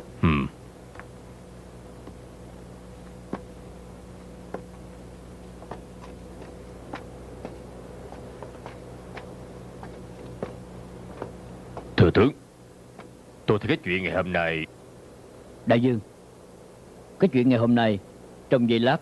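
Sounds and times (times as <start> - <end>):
low hum: 0.0 - 17.3.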